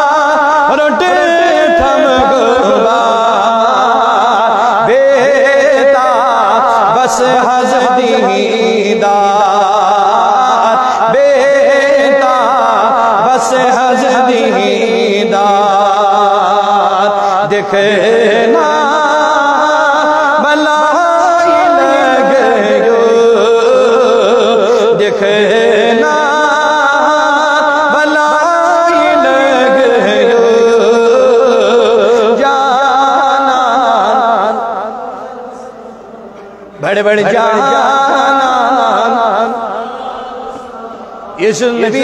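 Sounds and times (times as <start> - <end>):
man singing: 0.0 - 42.0.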